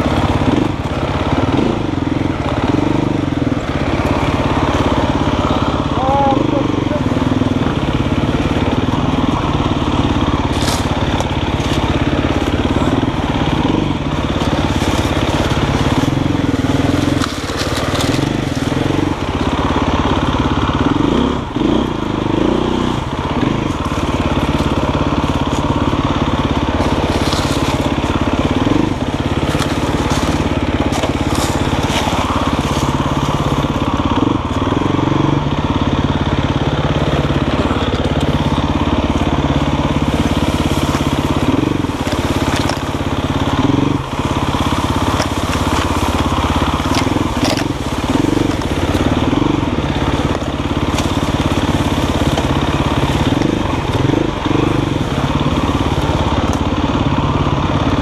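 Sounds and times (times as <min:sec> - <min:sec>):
branches scraping against bike: 0:00.0 - 0:58.0
dirt bike engine revving: 0:00.0 - 0:58.0.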